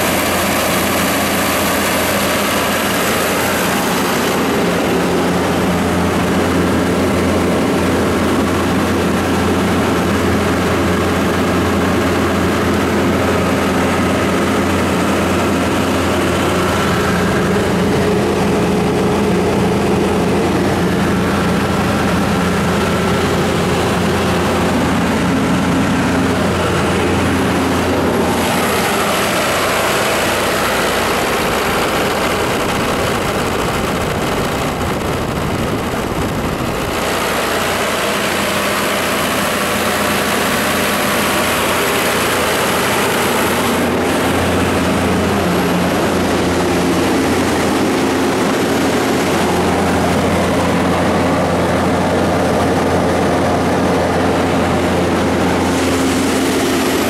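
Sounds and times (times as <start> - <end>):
diesel generator running: 0.0 - 57.0.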